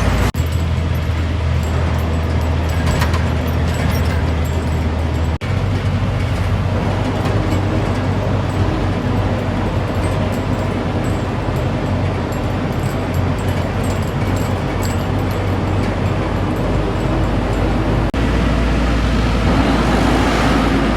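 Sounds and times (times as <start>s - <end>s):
road noise: 0.0s - 20.9s
truck engine running: 0.0s - 20.9s.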